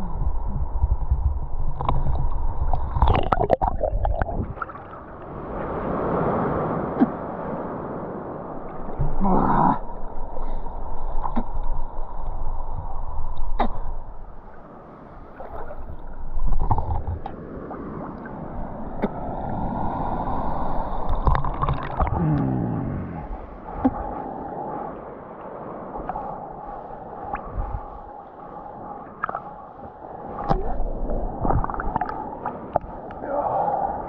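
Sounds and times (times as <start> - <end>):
sea water splashing: 0.0 - 34.0.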